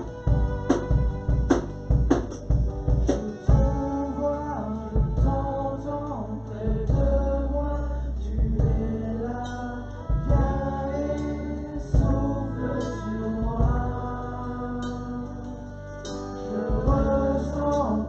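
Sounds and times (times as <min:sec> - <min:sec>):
choir singing: 0:00.0 - 0:18.0
deep bass: 0:00.0 - 0:18.0
instrumental backing: 0:00.0 - 0:18.0.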